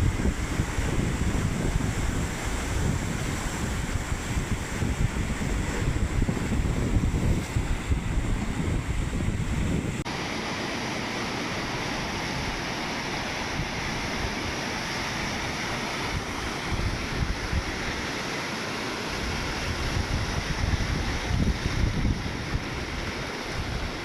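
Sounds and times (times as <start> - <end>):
wind buffeting microphone: 0.0 - 10.1, 13.5 - 18.1, 19.1 - 24.0
ocean surf breaking on beach: 0.0 - 24.0.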